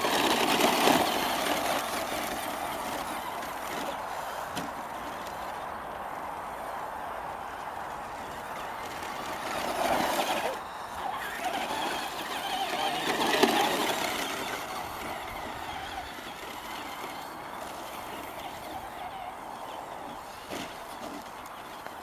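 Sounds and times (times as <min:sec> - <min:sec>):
electric toy truck motor whining: 0:00.0 - 0:05.6, 0:07.5 - 0:22.0.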